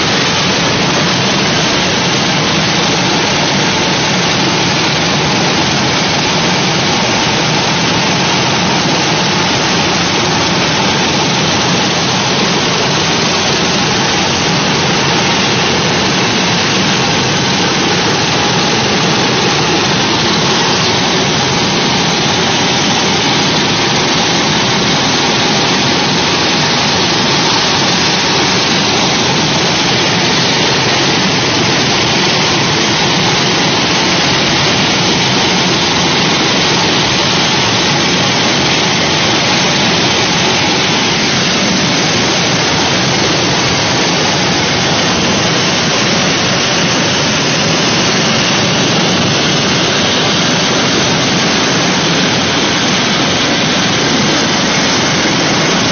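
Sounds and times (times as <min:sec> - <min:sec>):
helicopter turbine and rotor: 0:00.0 - 0:55.9.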